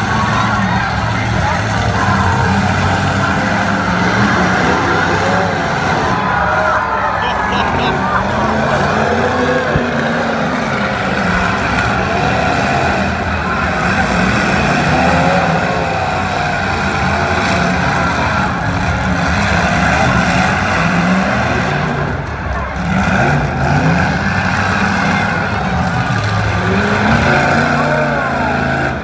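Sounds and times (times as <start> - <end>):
car engines revving: 0.0 - 29.0
crowd voices: 0.0 - 29.0.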